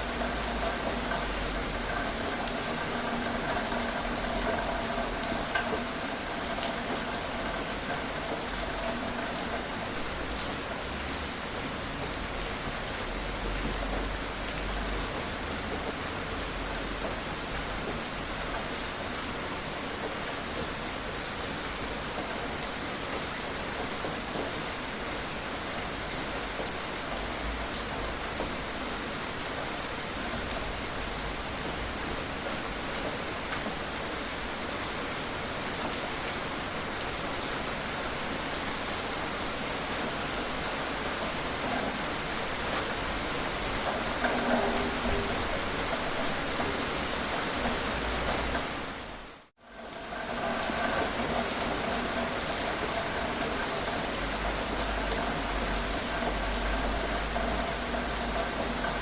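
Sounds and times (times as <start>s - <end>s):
steady gentle rain: 0.0s - 59.0s.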